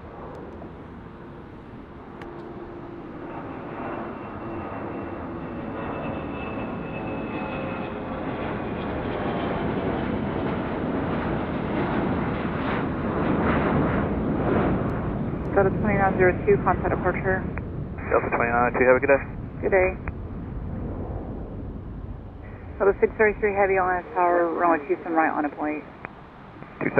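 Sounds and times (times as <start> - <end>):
whining tones: 0.0 - 9.6, 14.0 - 26.8
jet engine roar: 0.0 - 26.9.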